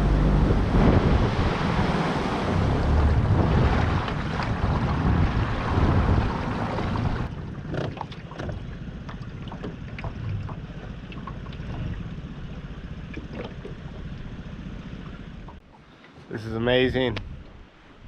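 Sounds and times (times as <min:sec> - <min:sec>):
low rumble: 0:00.0 - 0:15.6
water splashing and lapping: 0:00.0 - 0:16.3
wind and water rushing past boat: 0:00.0 - 0:18.0.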